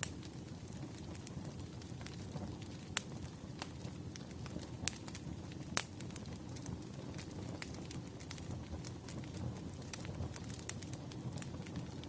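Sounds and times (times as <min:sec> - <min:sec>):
sharp pops of fire: 0:00.0 - 0:12.0
wood fire crackling: 0:00.0 - 0:12.0.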